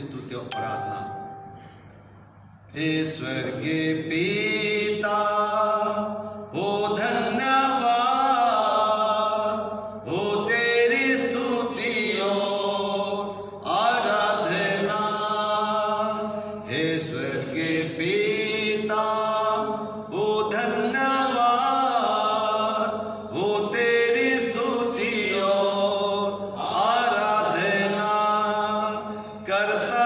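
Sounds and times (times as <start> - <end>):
man singing a slow hymn: 2.7 - 30.0.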